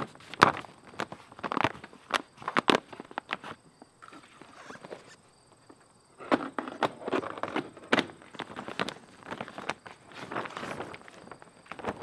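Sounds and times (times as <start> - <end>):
plastic sheeting crinkling: 0.0 - 5.2, 7.0 - 12.0.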